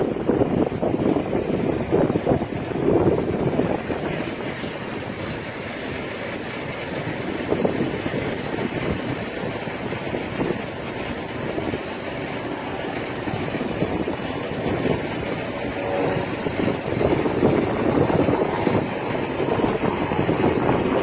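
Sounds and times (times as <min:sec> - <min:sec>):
rushing wind: 0:00.0 - 0:21.0.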